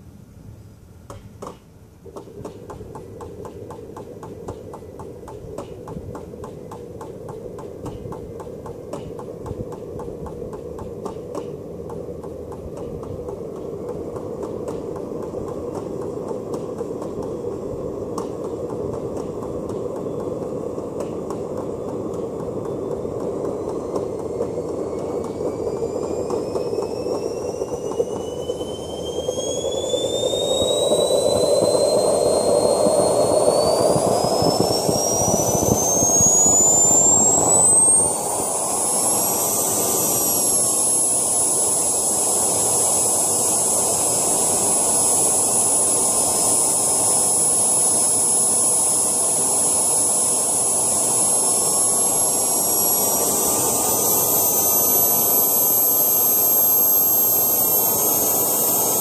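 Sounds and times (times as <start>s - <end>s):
turbine rushing hum: 2.0s - 59.0s
turbine whine rising: 2.1s - 59.0s.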